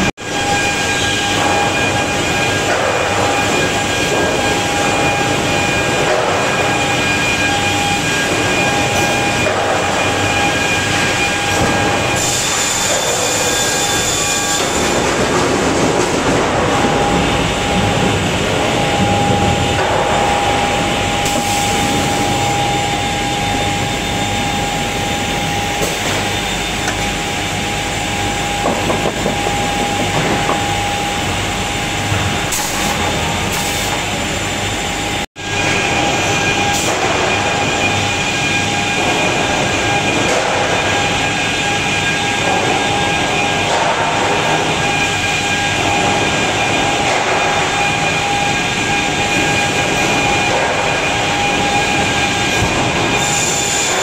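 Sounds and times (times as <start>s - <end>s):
conveyors and rollers running: 0.0s - 54.0s
steady machine whine: 0.0s - 54.0s.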